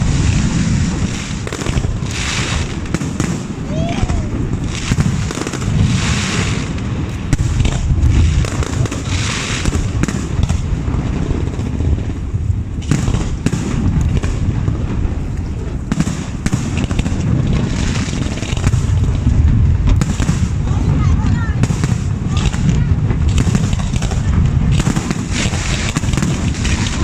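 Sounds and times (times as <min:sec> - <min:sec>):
fireworks booming and banging: 0:00.0 - 0:27.0
fireworks crackling: 0:00.0 - 0:27.0.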